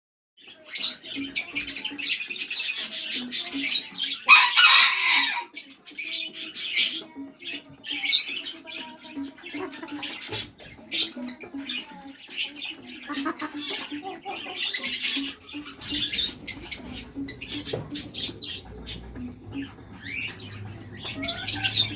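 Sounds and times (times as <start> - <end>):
birds squawking: 0.4 - 21.9.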